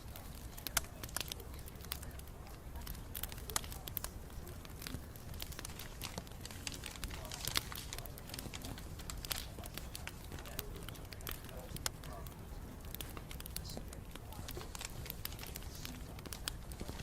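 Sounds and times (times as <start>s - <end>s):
bonfire crackling: 0.0s - 17.0s
low rumble of fire: 0.0s - 17.0s.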